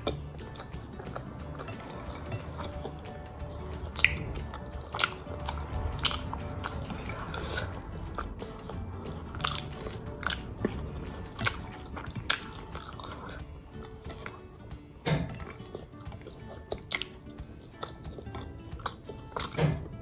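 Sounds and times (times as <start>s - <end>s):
person chewing noodles: 0.0s - 20.0s.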